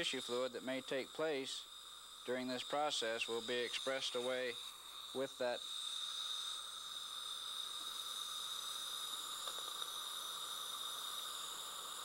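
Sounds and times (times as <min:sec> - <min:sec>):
suction hiss and whine: 0:00.0 - 0:12.0.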